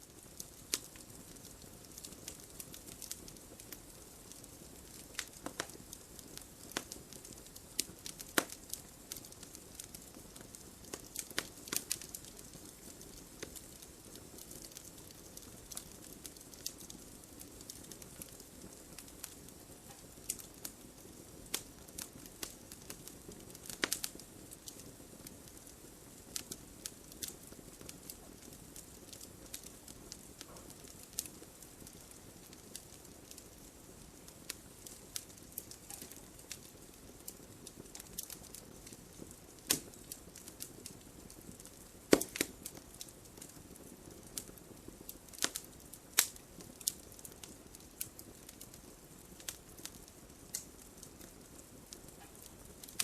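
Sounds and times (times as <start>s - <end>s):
logs crackling and popping: 0.1s - 53.0s.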